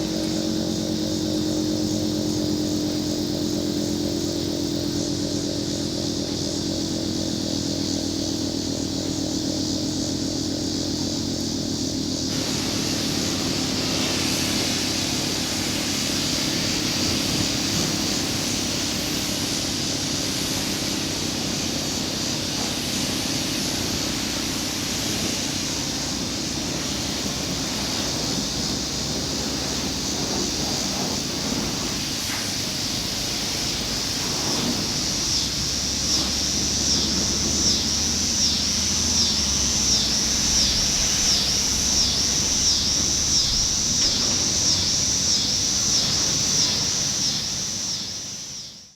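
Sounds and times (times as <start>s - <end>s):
high-pitched outdoor hiss: 0.0s - 48.9s.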